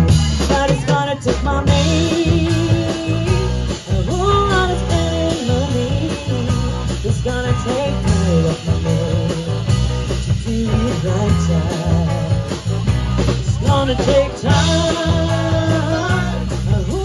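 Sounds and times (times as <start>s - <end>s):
live blues-rock band: 0.0s - 17.0s.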